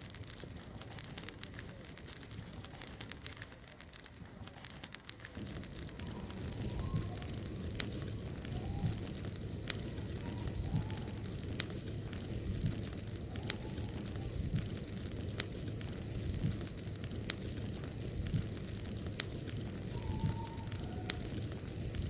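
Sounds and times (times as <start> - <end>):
bonfire rumbling: 0.0 - 22.0
fire crackling pops: 0.0 - 22.0.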